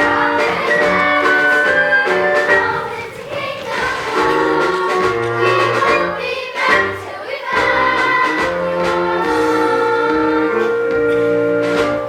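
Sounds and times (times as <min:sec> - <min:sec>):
voices singing show tune: 0:00.0 - 0:10.9
instrumental accompaniment: 0:00.0 - 0:12.0.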